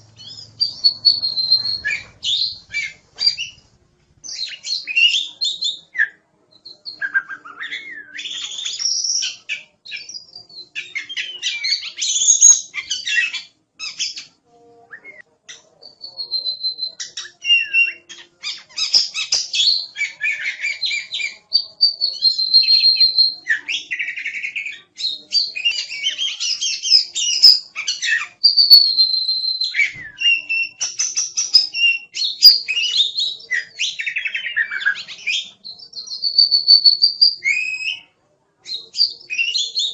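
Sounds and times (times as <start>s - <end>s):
magpie-robin singing: 0.0s - 14.4s, 15.0s - 39.9s.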